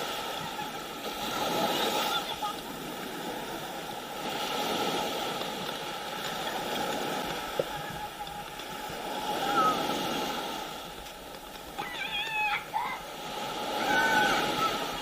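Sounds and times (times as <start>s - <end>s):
sea water splashing: 0.0s - 15.0s.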